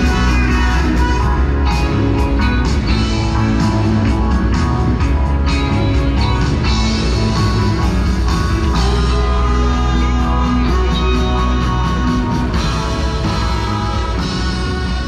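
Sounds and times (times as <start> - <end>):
rock music with guitar and bass: 0.0 - 15.0.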